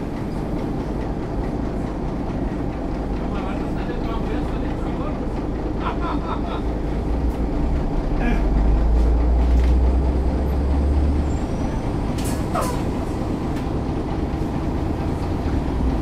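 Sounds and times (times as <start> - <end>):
diesel bus engine drone: 0.0 - 16.0.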